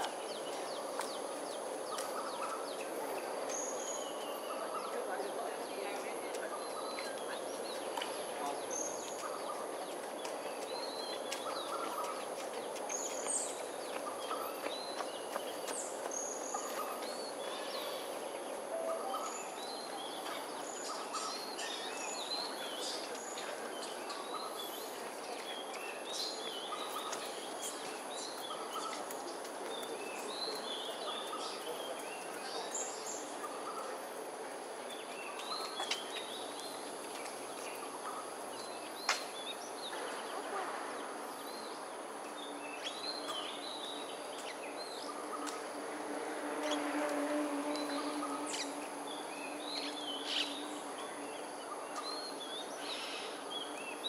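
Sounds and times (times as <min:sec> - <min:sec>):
birds chirping: 0:00.0 - 0:45.8
outdoor background hum: 0:00.0 - 0:54.0.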